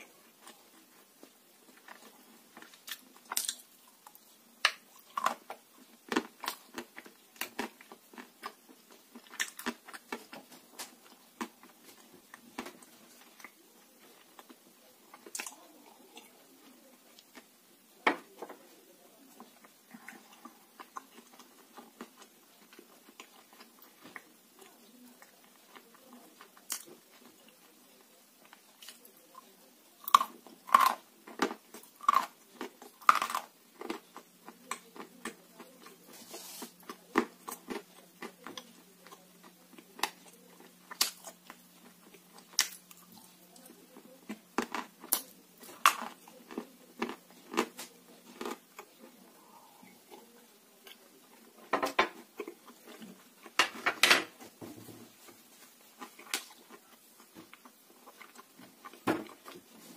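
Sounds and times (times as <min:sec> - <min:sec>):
crunching and chewing clay: 0:00.0 - 0:16.4, 0:19.3 - 0:54.0, 0:55.1 - 0:59.9.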